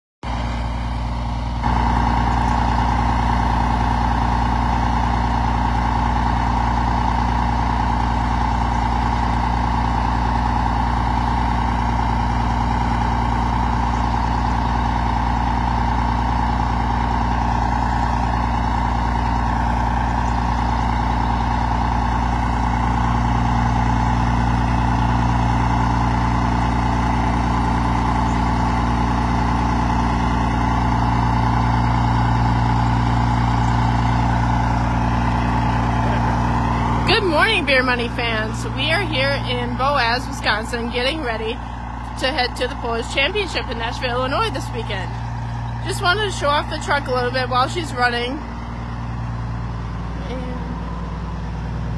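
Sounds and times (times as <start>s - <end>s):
diesel truck engine idling: 0.2s - 51.9s.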